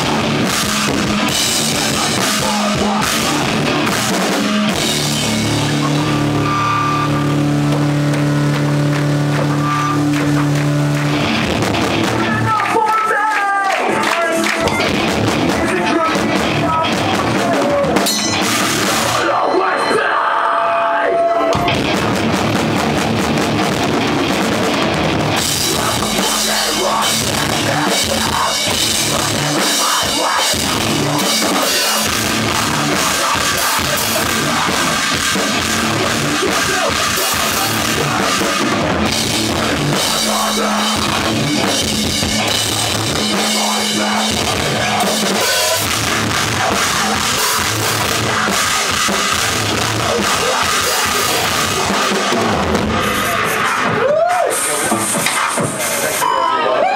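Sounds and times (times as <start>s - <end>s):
drums and cymbals: 0.0s - 12.6s, 14.4s - 20.0s, 21.3s - 56.5s
live rock band playing: 0.0s - 56.9s.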